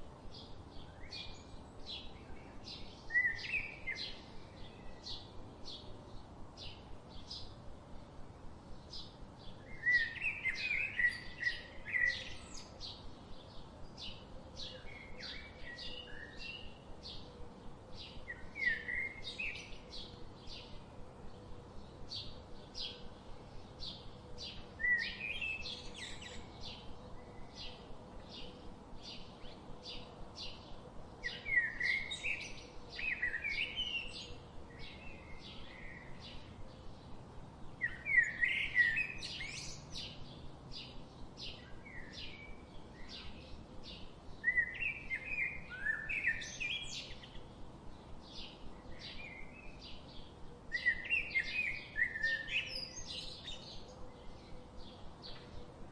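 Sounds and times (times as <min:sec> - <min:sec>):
bird warbling song: 0:00.0 - 0:07.5, 0:08.8 - 0:55.9.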